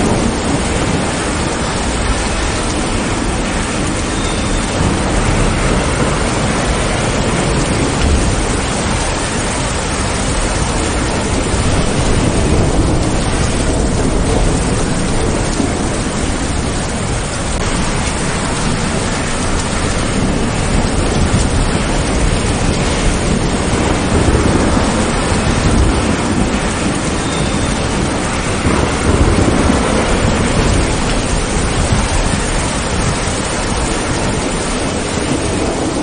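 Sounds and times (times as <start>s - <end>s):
heavy rain through trees: 0.0s - 36.0s
thunder rumbling: 0.0s - 36.0s.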